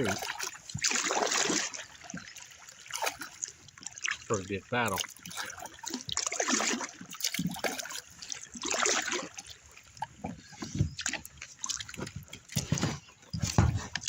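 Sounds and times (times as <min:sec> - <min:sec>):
kayak paddle strokes in water: 0:00.0 - 0:14.0
water trickling off paddle: 0:00.0 - 0:14.0.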